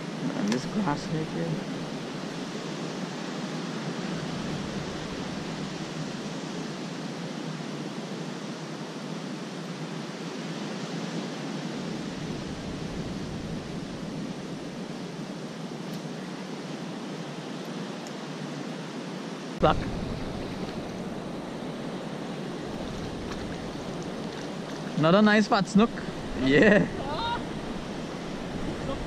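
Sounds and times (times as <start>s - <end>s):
rushing outdoor noise: 0.0s - 29.0s.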